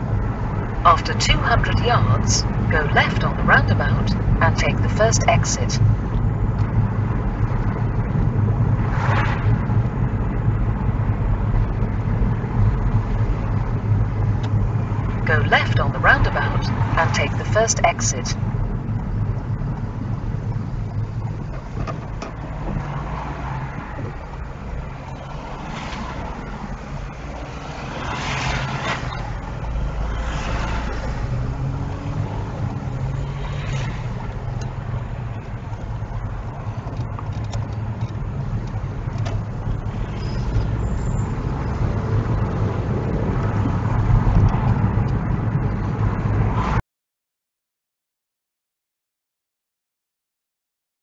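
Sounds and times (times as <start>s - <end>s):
car engine and road noise: 0.0s - 46.8s.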